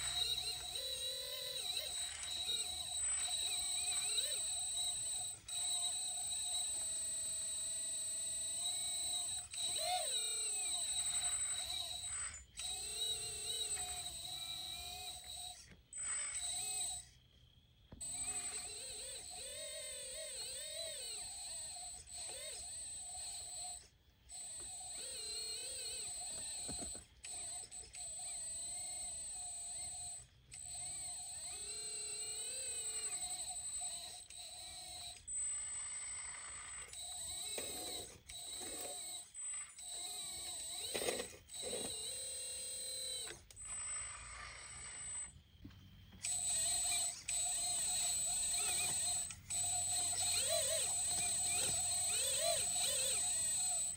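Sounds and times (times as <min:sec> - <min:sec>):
toy excavator electric whine: 0:00.0 - 0:53.9.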